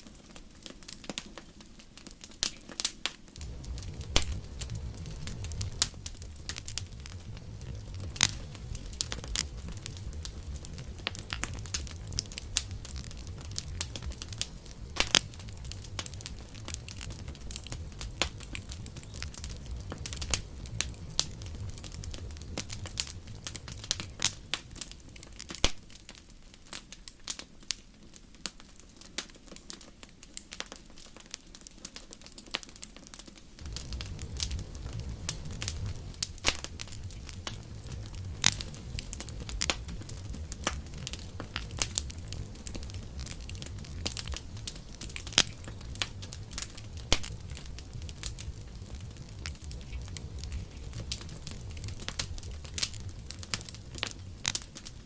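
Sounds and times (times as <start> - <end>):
campfire crackling and popping: 0.0 - 55.0
low rumble of burning: 0.0 - 55.0.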